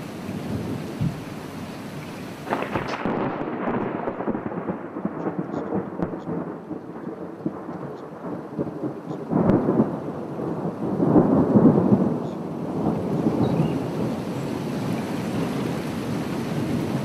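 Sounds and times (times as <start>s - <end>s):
steady rain: 0.0s - 17.0s
rolling thunder: 2.4s - 17.0s.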